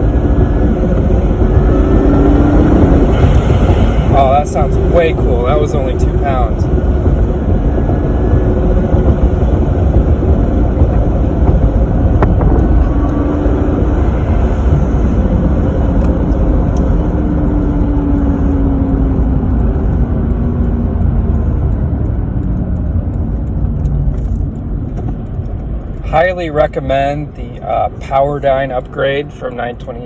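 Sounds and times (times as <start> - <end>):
car engine driving: 0.0 - 30.0
road and wind noise: 0.0 - 30.0.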